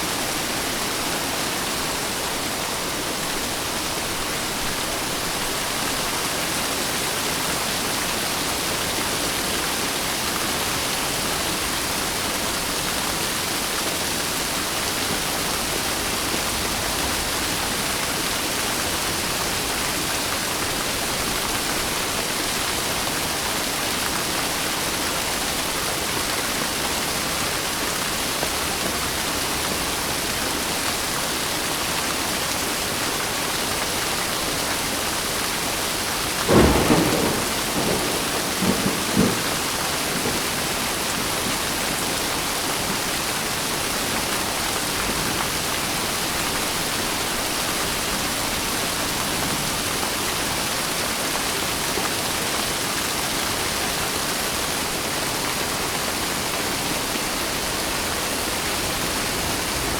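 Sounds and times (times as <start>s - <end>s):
heavy rain hiss: 0.0s - 59.9s.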